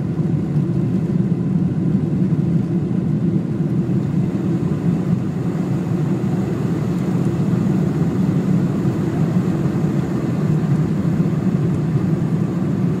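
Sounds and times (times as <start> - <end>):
jet airliner cabin hum: 0.0 - 13.0.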